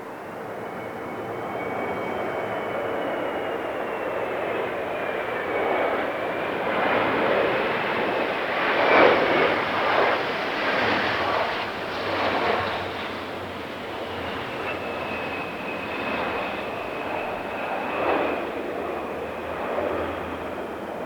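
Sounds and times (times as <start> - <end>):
jet engine whine: 0.0 - 21.0.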